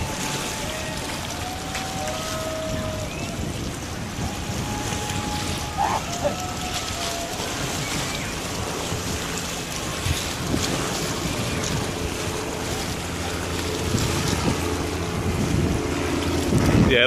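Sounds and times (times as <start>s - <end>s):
water: 0.0s - 17.0s
wind rumbling on microphone: 0.0s - 17.0s.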